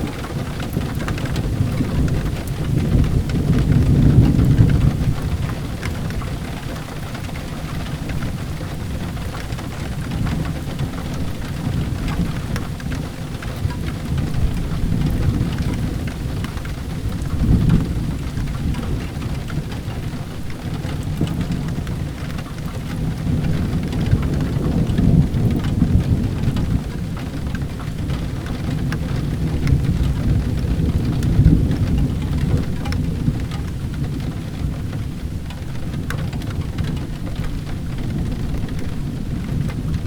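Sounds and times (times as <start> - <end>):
low rolling thunder: 0.0 - 40.0
steady rain: 0.0 - 40.0.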